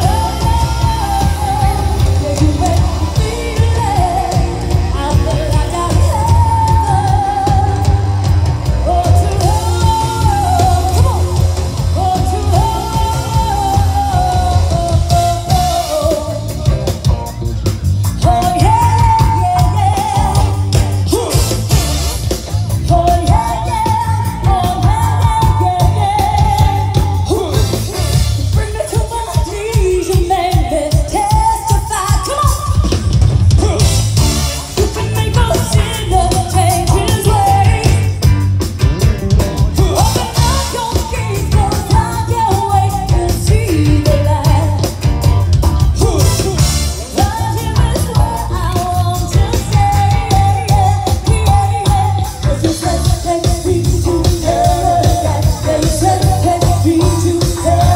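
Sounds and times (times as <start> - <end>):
woman singing lead: 0.0 - 38.4, 39.3 - 57.9
drum kit beat: 0.0 - 57.9
electric guitar: 0.0 - 57.9
keyboards: 0.0 - 57.9.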